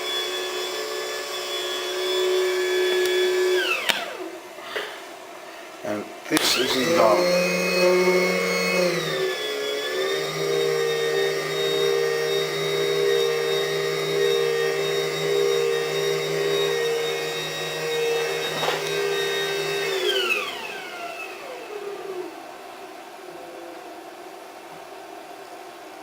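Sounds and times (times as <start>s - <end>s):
electric motor whining: 0.0s - 4.9s, 6.1s - 23.0s.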